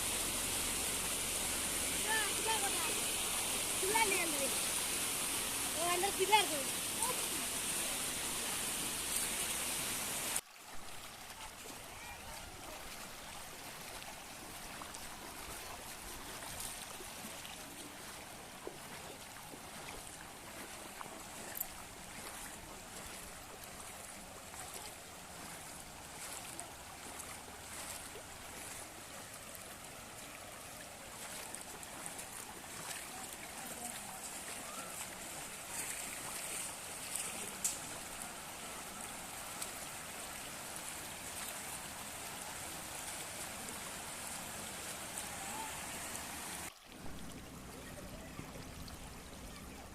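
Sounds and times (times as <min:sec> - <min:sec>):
faint ticks and splashes: 0:00.0 - 0:49.9
floodwater flowing: 0:00.0 - 0:49.9.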